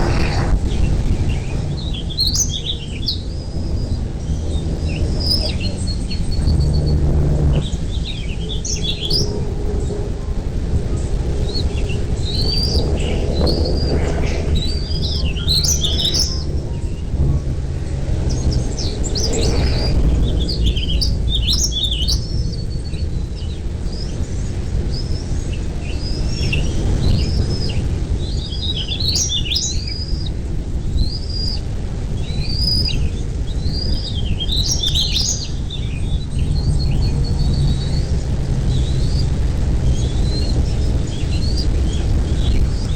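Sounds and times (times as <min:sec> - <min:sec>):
birds chirping: 0:00.0 - 0:42.9
low background rumble: 0:00.0 - 0:42.9.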